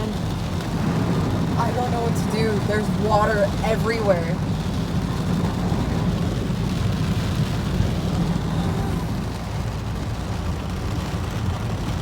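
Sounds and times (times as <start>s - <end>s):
engine and tyres rumbling: 0.0s - 12.0s
water hissing against car: 0.0s - 12.0s.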